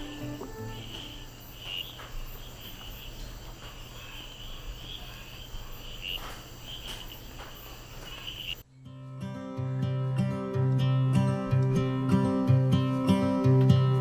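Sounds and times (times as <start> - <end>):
night insects chirring: 0.0 - 14.0.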